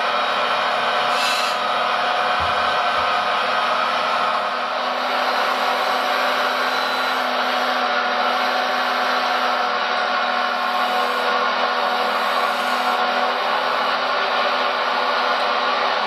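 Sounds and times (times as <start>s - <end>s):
small electric motors whirring: 0.0s - 16.0s.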